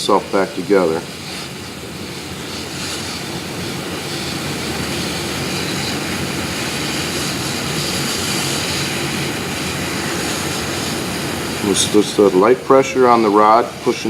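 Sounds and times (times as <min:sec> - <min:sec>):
hot gas rushing from welder: 0:00.0 - 0:14.0.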